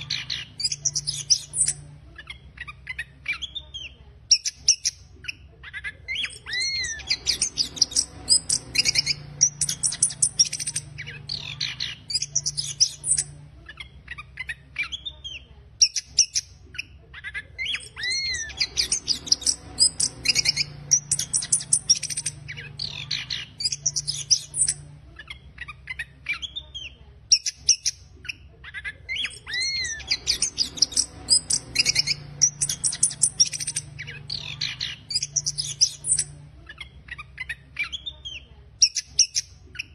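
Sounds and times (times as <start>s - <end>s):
steady low hum: 0.0s - 38.1s.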